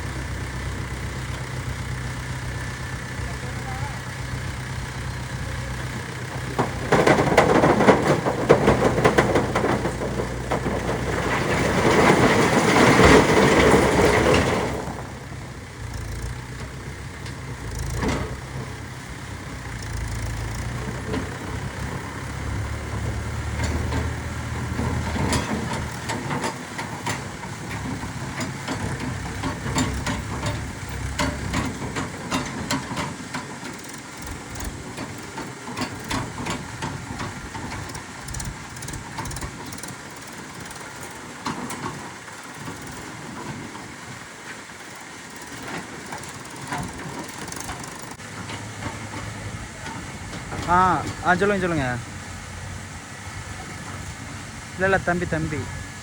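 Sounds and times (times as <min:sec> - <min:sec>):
backhoe diesel engine: 0:00.0 - 0:56.0.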